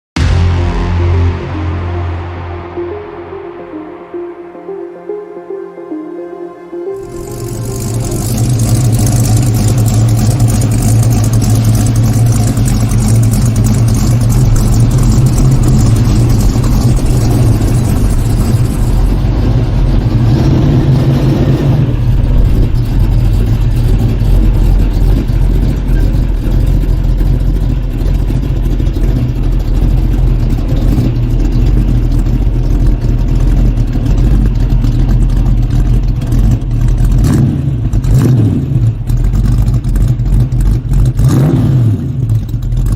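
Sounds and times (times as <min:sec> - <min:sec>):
car engine and exhaust droning: 0:00.2 - 0:42.9.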